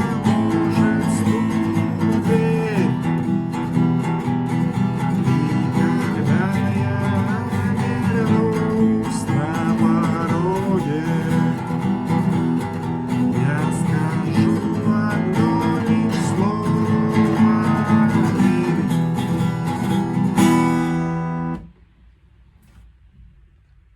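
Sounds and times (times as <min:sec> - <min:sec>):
acoustic guitar strumming: 0:00.0 - 0:21.8.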